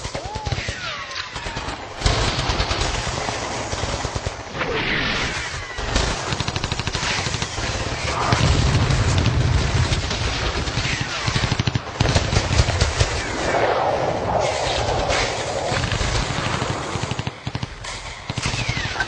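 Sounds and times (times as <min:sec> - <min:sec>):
rapid machine-gun fire: 0:00.0 - 0:13.6, 0:14.3 - 0:19.0.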